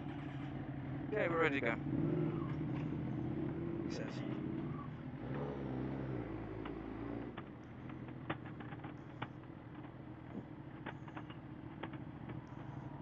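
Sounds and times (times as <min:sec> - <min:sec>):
motorcycle engine idling: 0:00.0 - 0:05.2, 0:07.3 - 0:13.0.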